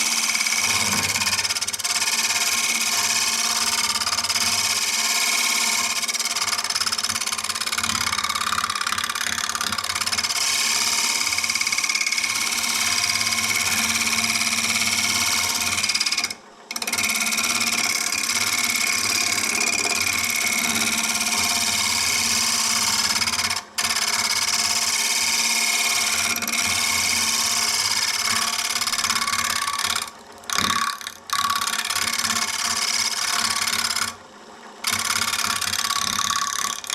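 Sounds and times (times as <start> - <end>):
turning tool cutting wood: 0.0 - 34.2, 34.8 - 36.9
lathe motor hum: 0.0 - 36.9.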